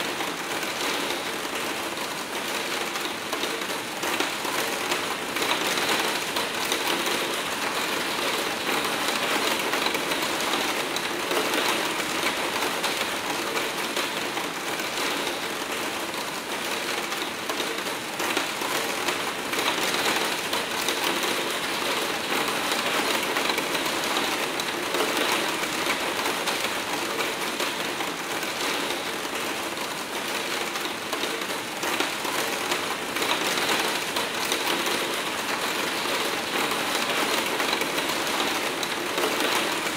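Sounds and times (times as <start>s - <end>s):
hard rain on a window: 0.0s - 39.9s.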